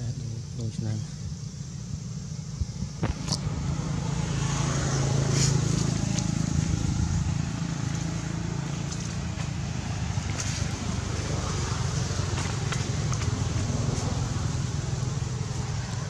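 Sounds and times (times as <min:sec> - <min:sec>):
passing motor vehicle rumble: 0:00.0 - 0:16.0.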